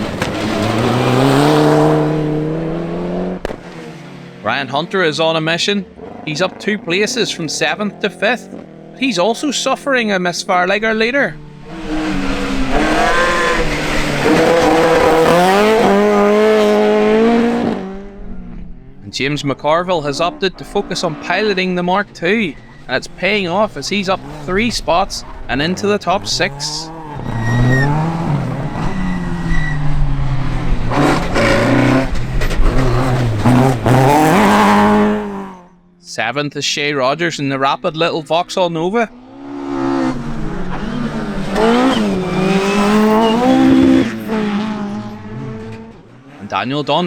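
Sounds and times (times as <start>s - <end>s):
rally car engine revving: 0.0s - 36.0s, 38.8s - 47.0s.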